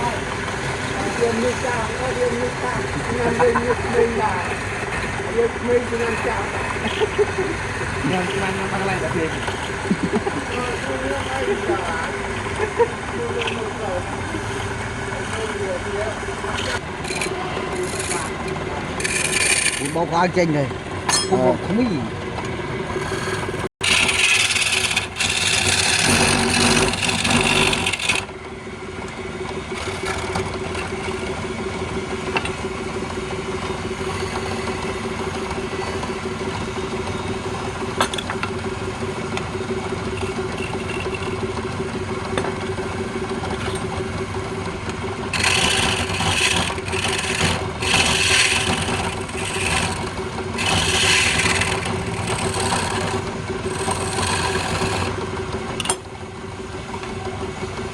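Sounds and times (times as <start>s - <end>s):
tool scraping spinning wood: 0.0s - 56.2s
wood lathe motor hum: 0.0s - 57.9s.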